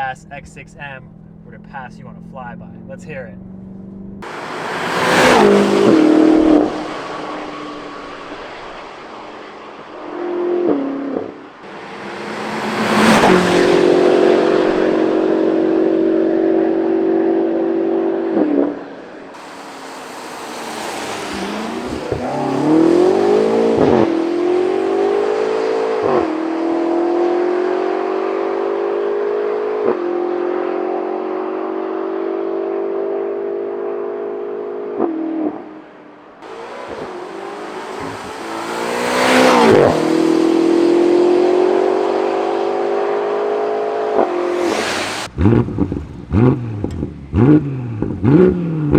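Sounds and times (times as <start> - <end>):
car engine accelerating past: 2.7 - 48.9.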